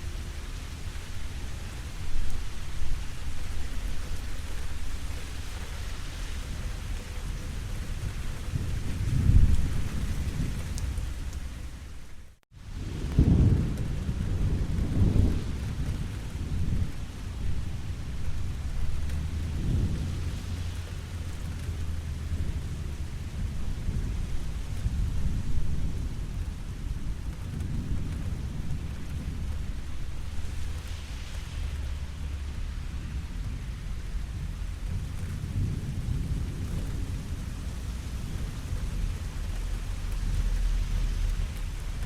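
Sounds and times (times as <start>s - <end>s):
rolling thunder rumbles: 0.0s - 42.0s
steady rain: 0.0s - 42.0s.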